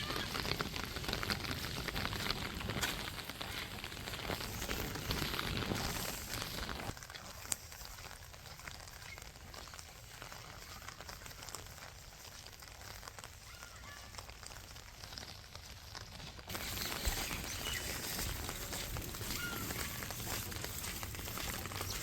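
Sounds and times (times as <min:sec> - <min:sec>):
rain patter and hiss: 0:00.0 - 0:22.0.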